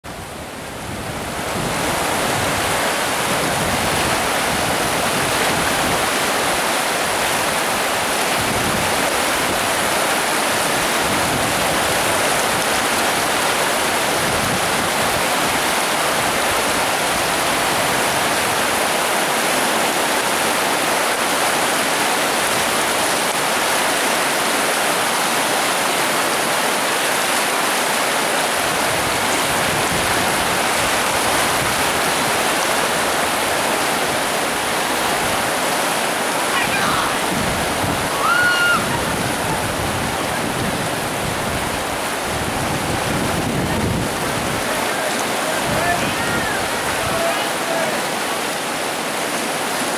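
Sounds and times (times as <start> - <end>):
river rapids rushing: 0.1 - 49.9.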